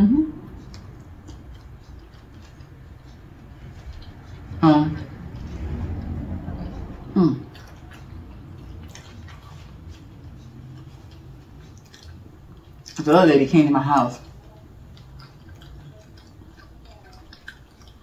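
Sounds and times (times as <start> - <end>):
chewing and wet mouth clicks: 0.4 - 18.0.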